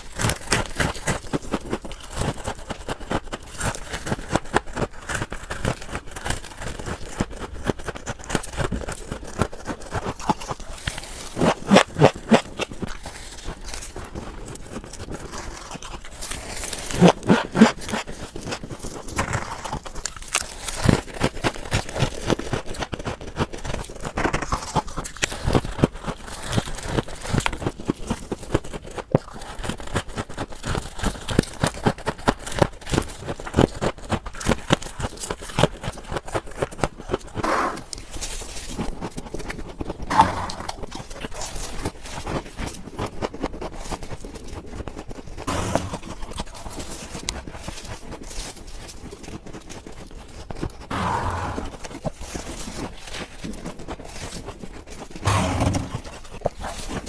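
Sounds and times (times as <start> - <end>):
frost crunching being chewed: 0.0 - 57.0.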